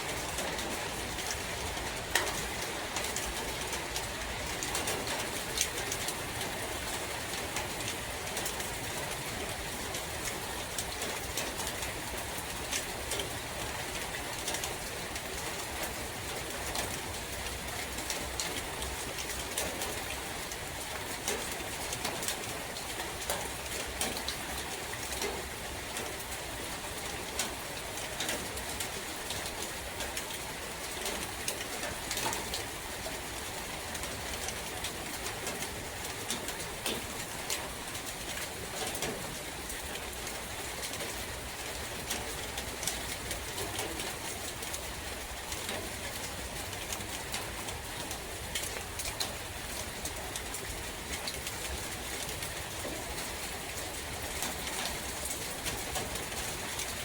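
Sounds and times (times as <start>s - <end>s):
rain falling in a forest: 0.0s - 57.0s
sharp drips and patters: 0.0s - 57.0s.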